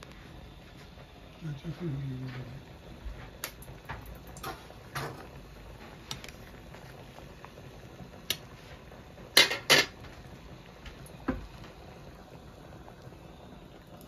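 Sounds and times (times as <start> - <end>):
water boiling and bubbling: 0.0 - 14.0.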